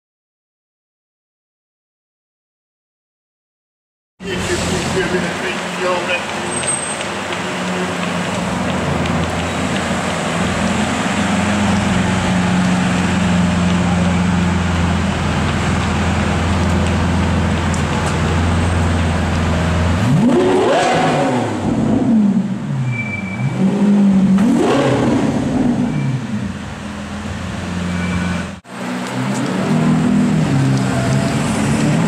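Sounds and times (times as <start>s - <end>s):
car engine idling and revving: 4.2s - 32.0s.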